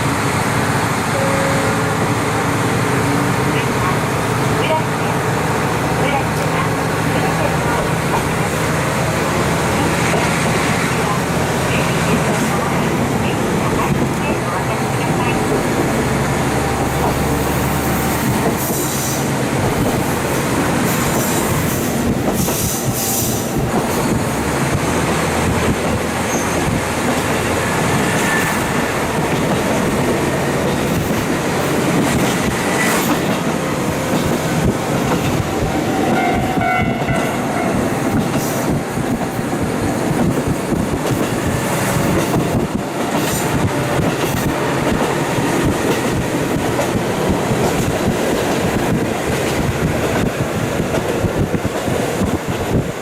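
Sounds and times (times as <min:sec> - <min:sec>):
train wheels rumbling on rail: 0:00.0 - 0:53.0
wind noise: 0:05.6 - 0:53.0.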